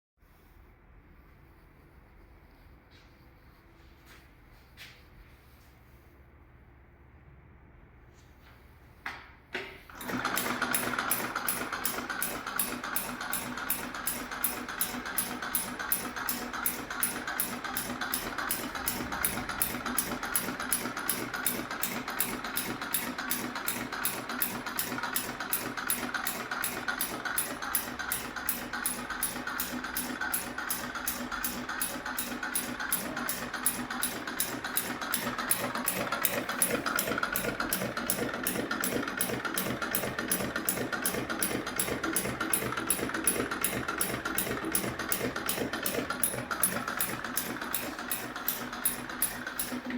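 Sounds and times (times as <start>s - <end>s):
sewing machine stitching: 9.9s - 49.9s.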